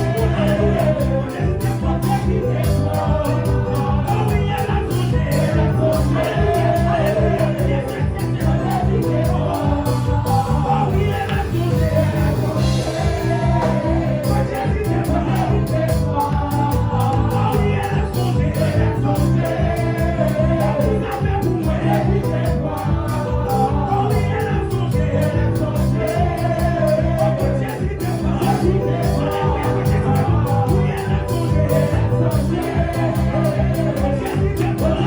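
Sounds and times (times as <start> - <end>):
gospel singing with band: 0.0 - 35.0
steady drum beat: 0.0 - 35.0.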